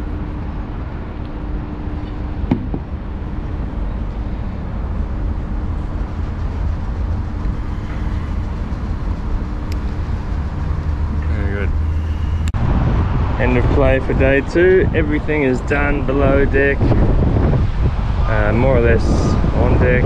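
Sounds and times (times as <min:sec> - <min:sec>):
constant low hum: 0:00.0 - 0:20.0
low background rumble: 0:00.0 - 0:20.0.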